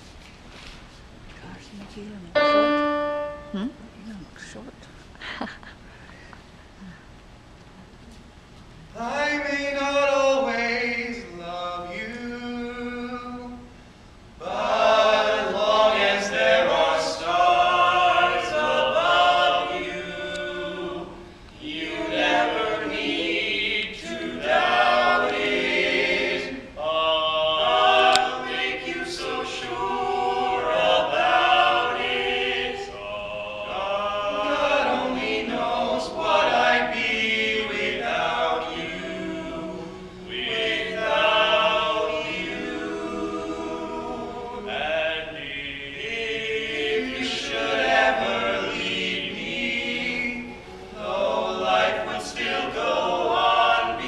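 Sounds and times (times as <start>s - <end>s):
male voices singing in harmony: 9.0s - 13.7s, 14.4s - 54.0s.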